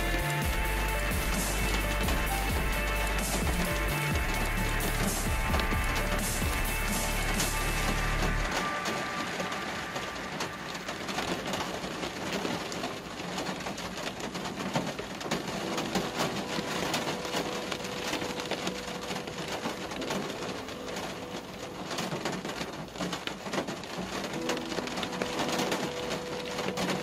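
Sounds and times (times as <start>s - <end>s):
rain on a car roof: 0.0s - 27.0s.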